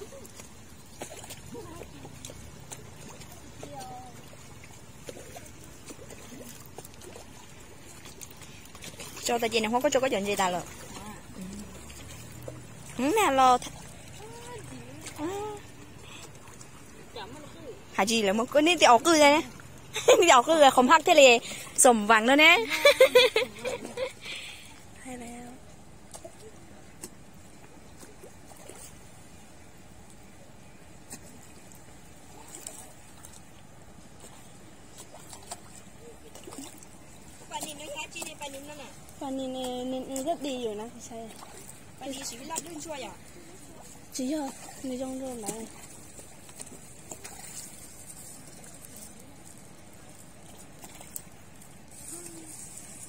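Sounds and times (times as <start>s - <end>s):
low riverside rumble: 0.0s - 53.0s.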